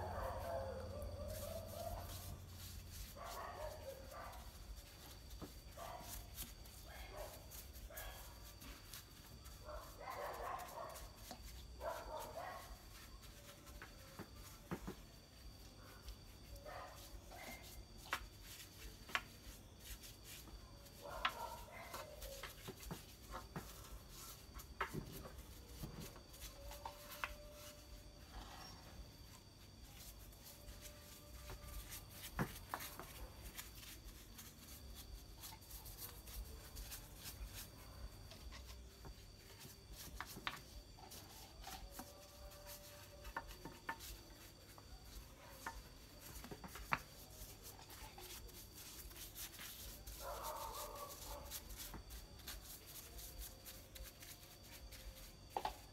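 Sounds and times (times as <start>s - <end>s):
brush rubbing on wood: 0.0s - 55.9s.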